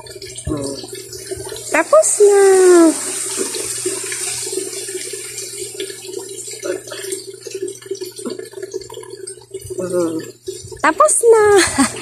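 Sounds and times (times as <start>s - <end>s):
water running into a basin: 0.0s - 12.0s.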